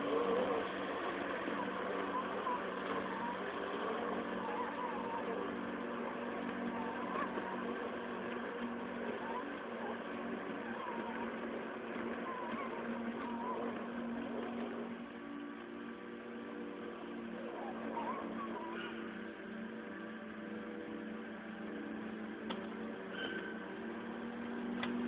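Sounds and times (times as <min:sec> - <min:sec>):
robotic mower motor hum: 0:00.0 - 0:25.0.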